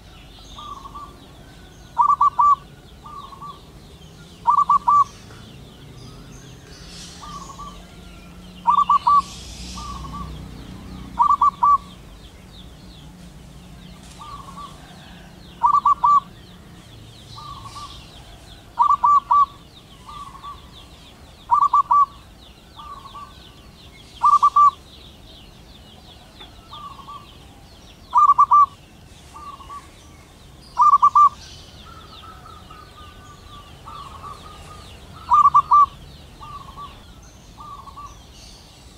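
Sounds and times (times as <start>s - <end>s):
dove cooing: 0.0s - 12.2s, 14.0s - 20.8s, 21.4s - 23.6s, 24.2s - 25.0s, 25.9s - 30.0s, 30.8s - 38.1s.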